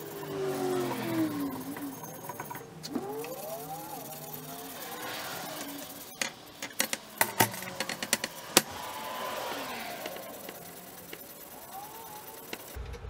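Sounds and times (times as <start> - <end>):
faint wavering tones: 0.0 - 12.8.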